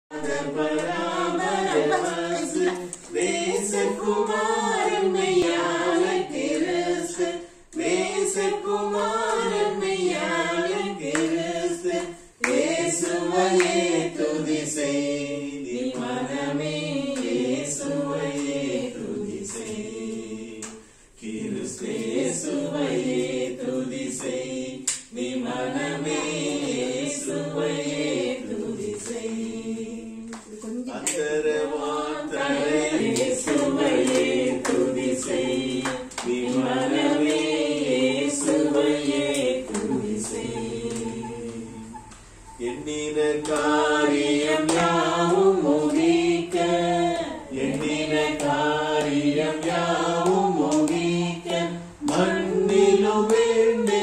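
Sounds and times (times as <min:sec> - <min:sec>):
group singing without instruments: 0:00.0 - 0:54.0.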